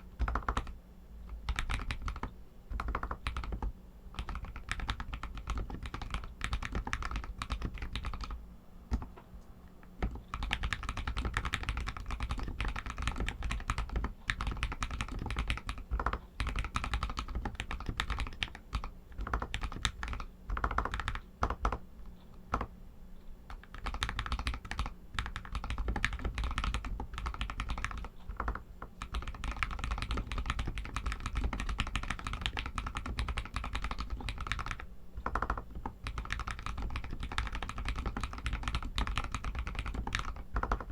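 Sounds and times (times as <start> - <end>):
mechanical keyboard typing: 0.2 - 9.2, 9.9 - 21.8, 22.5 - 22.7, 23.5 - 40.9.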